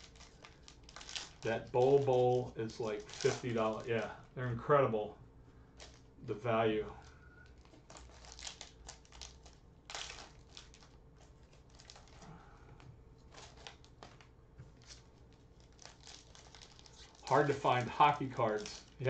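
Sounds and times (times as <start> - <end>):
foil wrapper crinkling and tearing: 0.0 - 4.4, 5.8 - 6.1, 7.0 - 12.5, 13.3 - 19.0.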